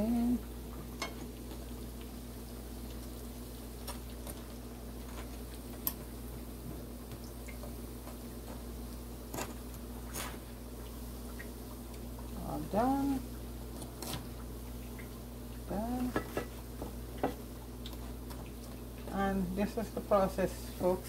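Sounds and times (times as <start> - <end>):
dough sizzling in hot oil: 0.0 - 21.0.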